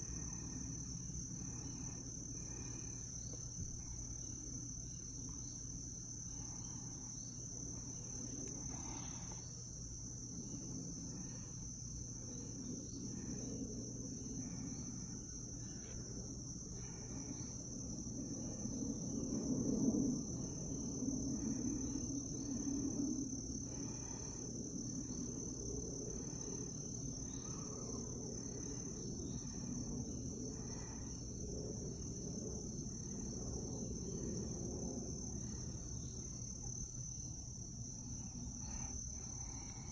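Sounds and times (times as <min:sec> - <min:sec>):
crickets trilling: 0:00.0 - 0:39.9
low background rumble: 0:00.0 - 0:39.9.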